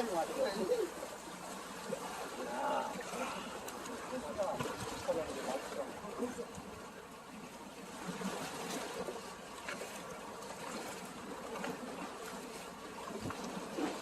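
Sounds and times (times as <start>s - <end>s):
faint small splashes: 0.0s - 14.0s
seawater lapping: 0.0s - 14.0s.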